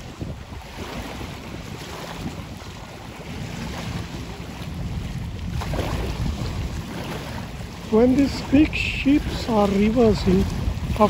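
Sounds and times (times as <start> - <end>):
small waves splashing: 0.0 - 11.0
wind buffeting microphone: 0.0 - 11.0.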